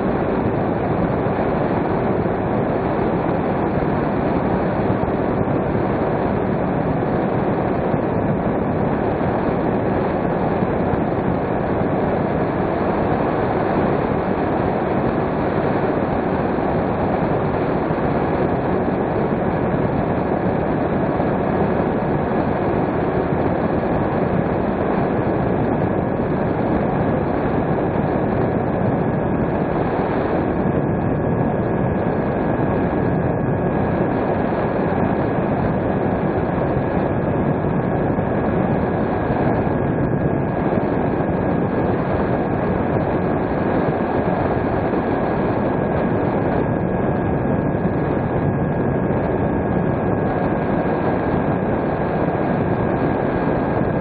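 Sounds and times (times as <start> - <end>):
faint steady whine: 0.0 - 54.0.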